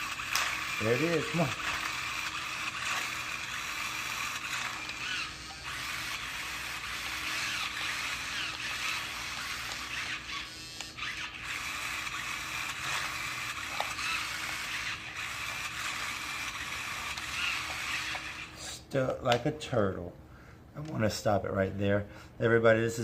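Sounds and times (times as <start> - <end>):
toy car electric motors whining: 0.0 - 18.8.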